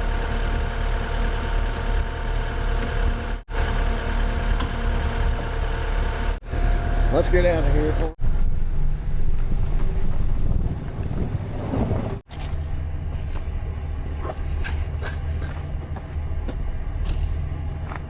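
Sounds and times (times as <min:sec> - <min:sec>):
vehicle engine driving off: 0:00.0 - 0:18.0.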